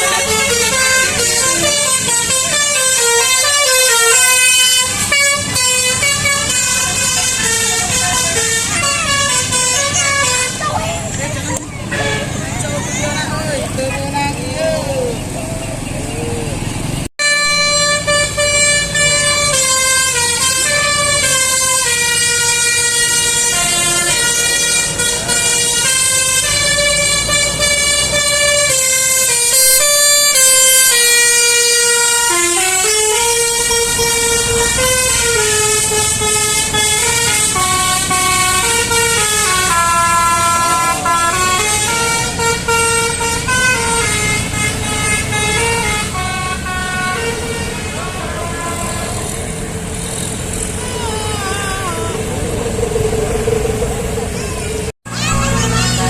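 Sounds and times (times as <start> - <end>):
multi-tone horn melody: 0.0 - 10.8, 11.8 - 12.6, 17.2 - 52.7.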